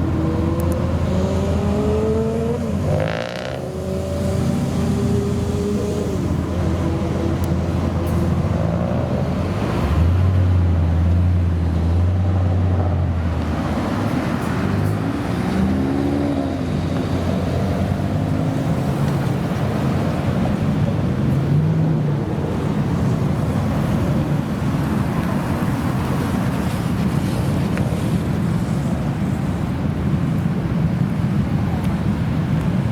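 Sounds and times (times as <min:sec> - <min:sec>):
car engine with loud exhaust revving: 0:00.0 - 0:29.5.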